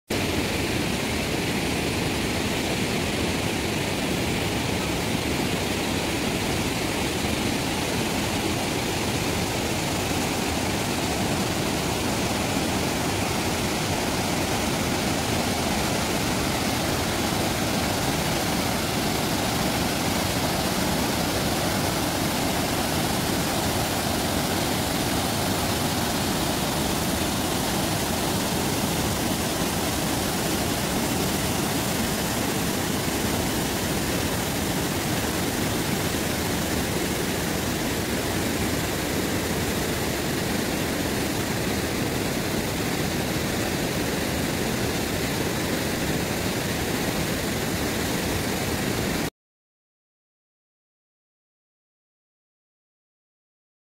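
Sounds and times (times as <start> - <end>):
waterfall and river rapids rushing: 0.1 - 49.3.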